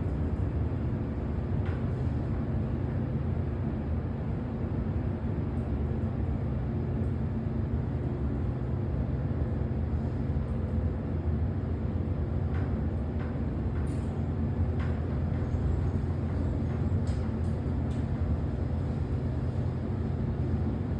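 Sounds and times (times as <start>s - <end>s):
elevator hum and rumble: 0.0s - 20.9s.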